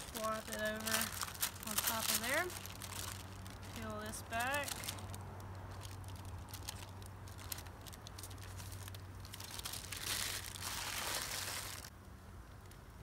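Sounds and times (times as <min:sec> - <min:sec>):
paper crumpled by hand: 0:00.0 - 0:11.9
paper peeling and crinkling: 0:00.0 - 0:11.9.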